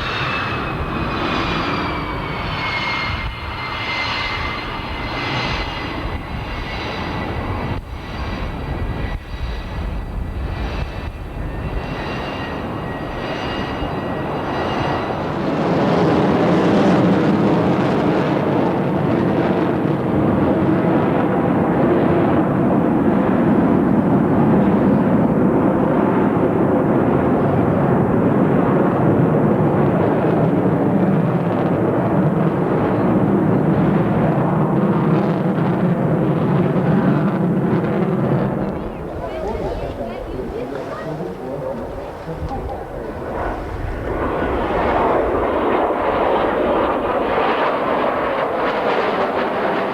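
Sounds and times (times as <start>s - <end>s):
jet roar: 0.0s - 49.9s.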